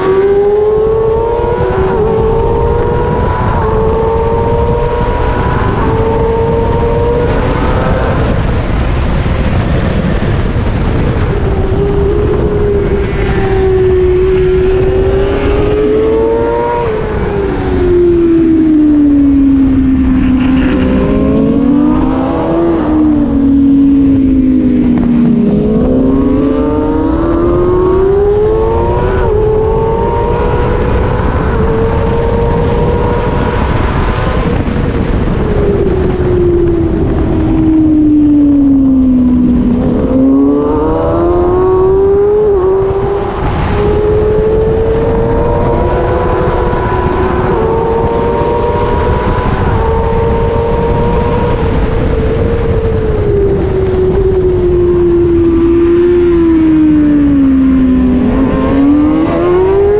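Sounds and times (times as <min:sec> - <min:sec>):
motorcycle engine at high revs: 0:00.0 - 0:59.9
wind rushing: 0:00.0 - 0:59.9.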